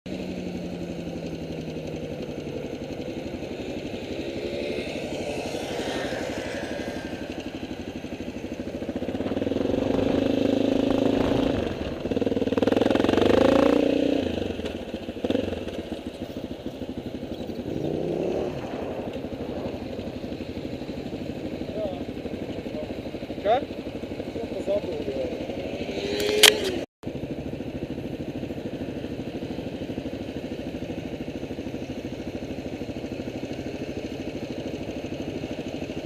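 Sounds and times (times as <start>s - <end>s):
motorcycle engine revving: 0.1s - 36.0s.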